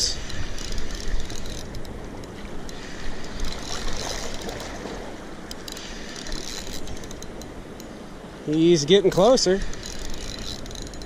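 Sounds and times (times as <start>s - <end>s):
fishing reel clicks: 0.0s - 4.6s, 5.5s - 7.9s, 8.6s - 11.0s.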